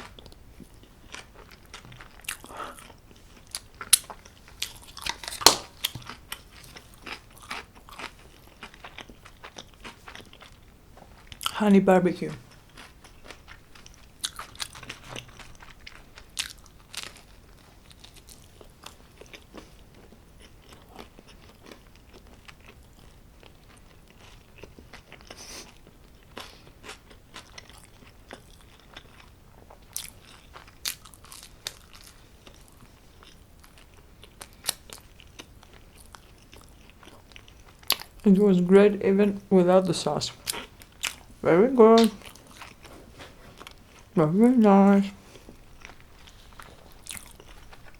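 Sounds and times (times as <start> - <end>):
chewing food: 0.0 - 11.6, 12.4 - 38.4, 40.3 - 44.2, 45.2 - 47.9.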